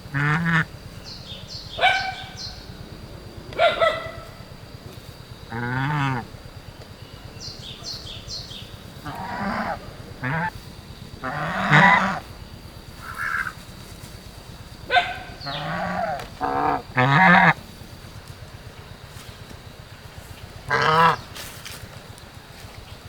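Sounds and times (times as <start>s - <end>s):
geese honking: 0.0s - 22.2s.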